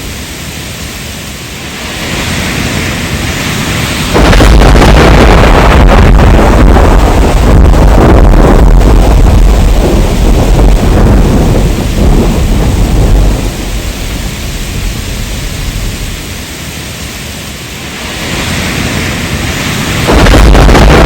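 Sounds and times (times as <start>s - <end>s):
heavy rain: 0.0s - 21.0s
thunder rumble: 1.5s - 21.0s.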